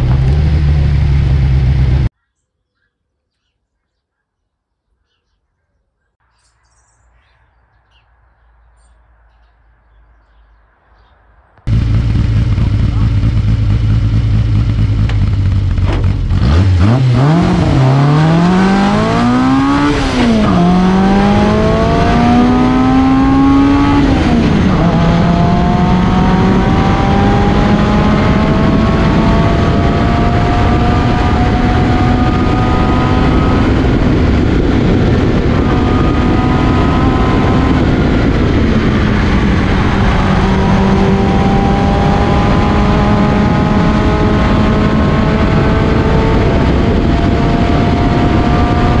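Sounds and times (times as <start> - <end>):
race car engine revving: 0.0 - 2.1, 11.7 - 49.0.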